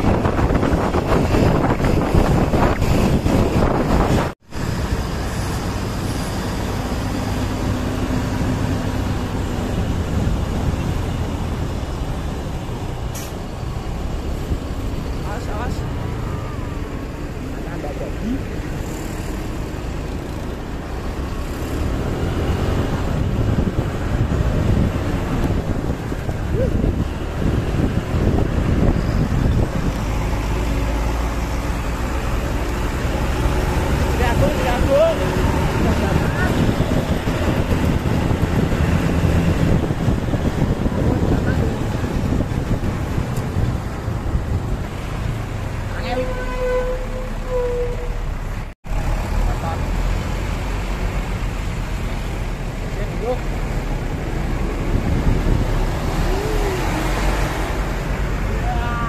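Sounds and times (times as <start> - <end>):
heavy vehicle engine rumbling: 0.0 - 59.0
road traffic noise: 0.0 - 59.0.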